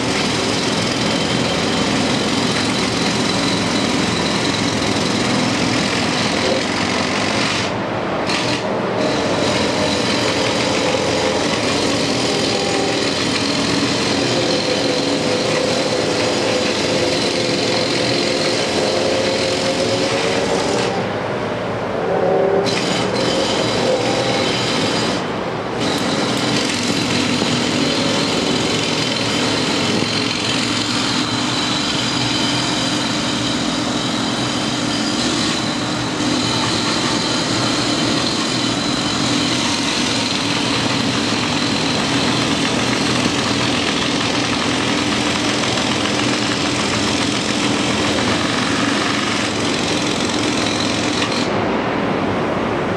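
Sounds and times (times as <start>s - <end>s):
excavator engine droning: 0.0s - 52.9s.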